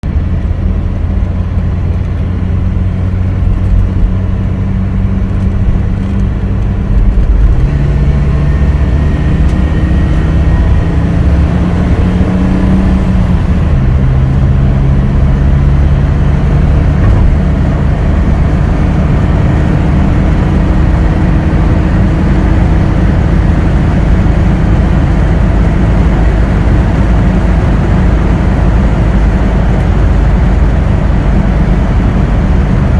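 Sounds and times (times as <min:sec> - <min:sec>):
car engine running: 0:00.0 - 0:32.9.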